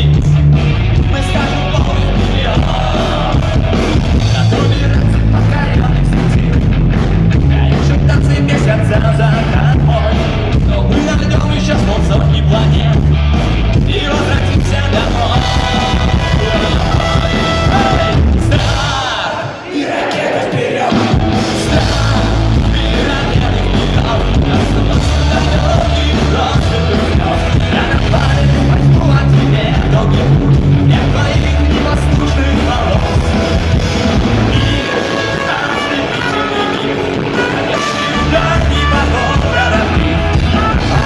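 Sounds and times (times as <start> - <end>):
live rock band: 0.0 - 41.0.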